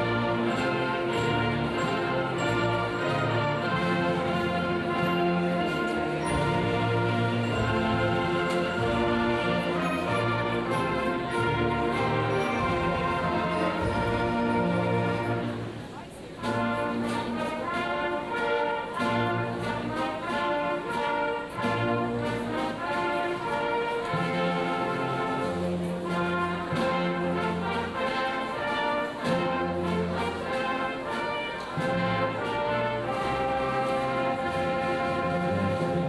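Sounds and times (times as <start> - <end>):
brass band playing held chords: 0.0 - 36.0.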